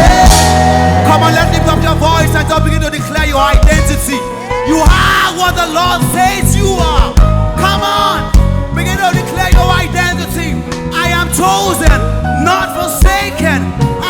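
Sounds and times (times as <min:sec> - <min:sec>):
voices singing: 0:00.0 - 0:14.0
worship band playing: 0:00.0 - 0:14.0.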